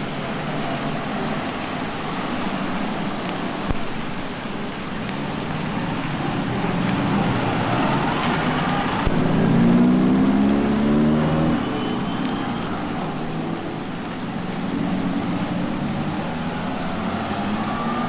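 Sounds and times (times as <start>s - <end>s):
passing vehicles: 0.0s - 18.0s.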